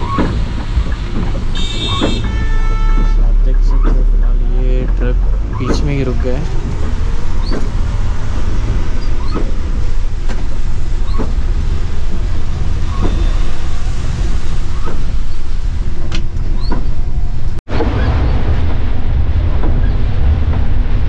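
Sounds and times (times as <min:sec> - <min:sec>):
bus engine rumble: 0:00.0 - 0:21.0
tyres on wet road: 0:00.0 - 0:21.0.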